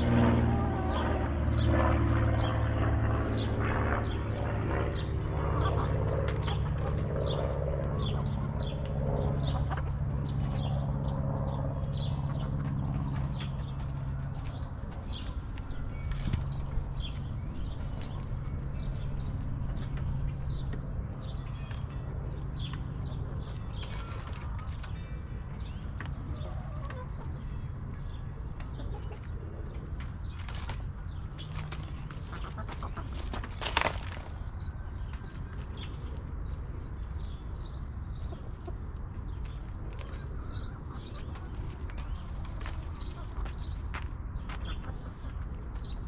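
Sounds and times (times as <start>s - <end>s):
low steady drone: 0.0s - 42.6s
birds chirping: 0.0s - 46.0s.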